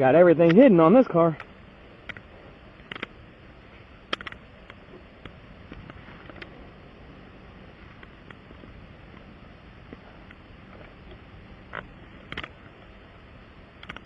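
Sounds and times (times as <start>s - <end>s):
steady low background noise: 0.0s - 14.0s.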